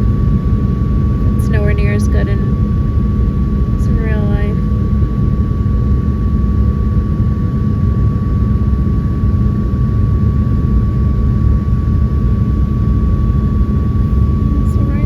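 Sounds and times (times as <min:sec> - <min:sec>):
airliner engine and airflow rumble: 0:00.0 - 0:15.0
thin steady whine: 0:00.0 - 0:15.0.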